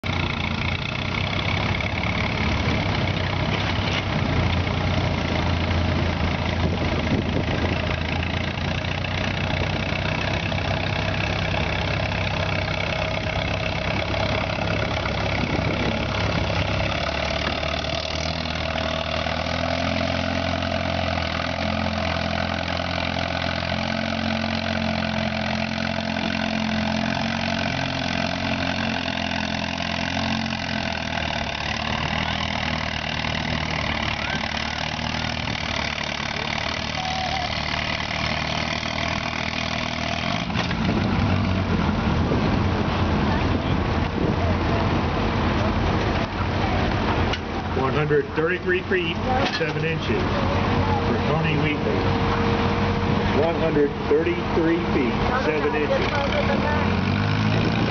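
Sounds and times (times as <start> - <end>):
tractor engine running under load: 0.0 - 57.9.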